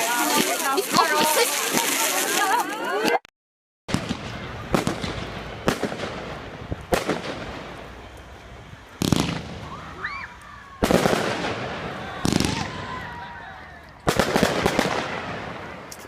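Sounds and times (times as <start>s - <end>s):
fireworks exploding: 0.0s - 3.2s, 3.9s - 16.0s.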